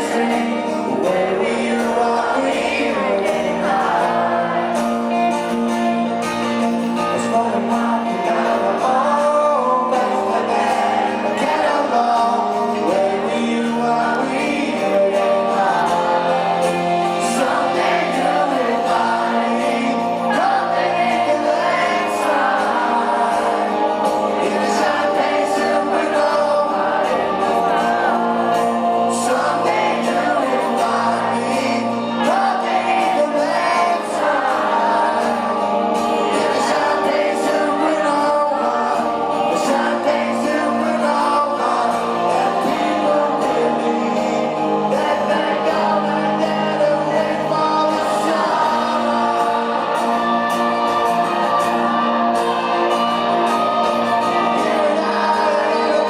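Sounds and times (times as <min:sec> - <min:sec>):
live rock band playing: 0:00.0 - 0:56.0
man singing lead vocal: 0:00.0 - 0:56.0.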